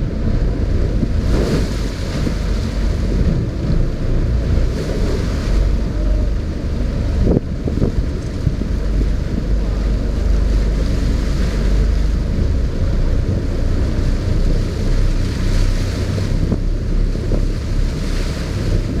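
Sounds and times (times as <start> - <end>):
choppy waves rushing: 0.0 - 19.0
wind buffeting microphone: 0.0 - 19.0.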